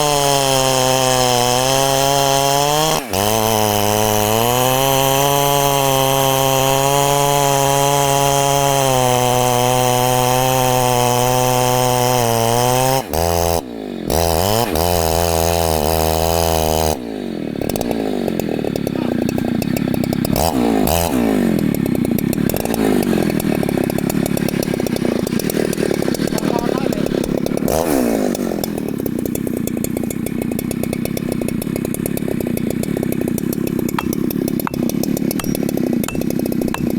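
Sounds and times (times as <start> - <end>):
chainsaw cutting wood: 0.0 - 36.9.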